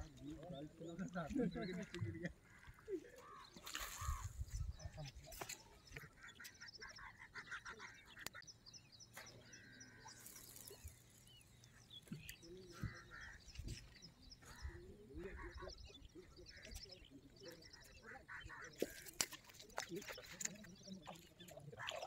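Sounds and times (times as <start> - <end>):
birds calling and chirping: 0.0 - 22.0.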